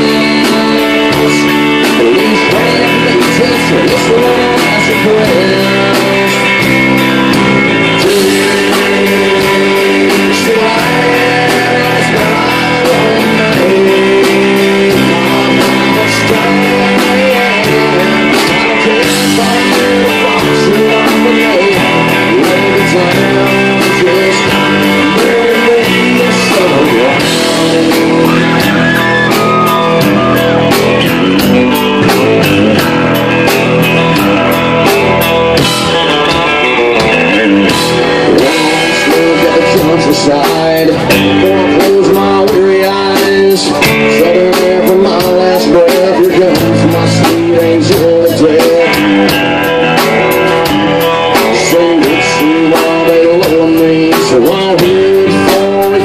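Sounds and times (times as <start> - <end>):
man singing into a microphone: 0.0 - 33.0, 35.6 - 56.0
bass guitar: 0.0 - 56.0
drum kit beat: 0.0 - 56.0
electric guitar: 0.0 - 56.0.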